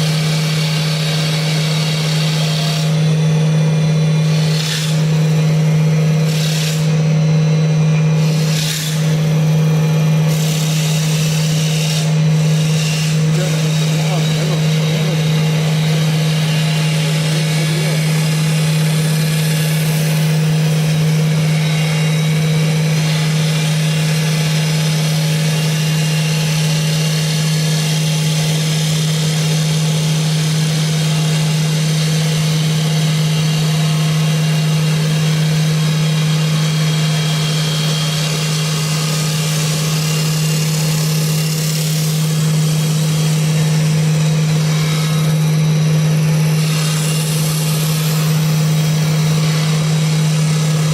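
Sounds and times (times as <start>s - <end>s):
wood lathe humming: 0.0s - 50.9s.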